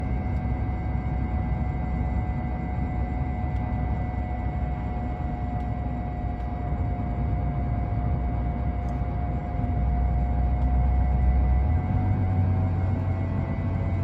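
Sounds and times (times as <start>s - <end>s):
car interior low rumble: 0.0s - 14.0s
steady thin whine: 0.0s - 14.0s.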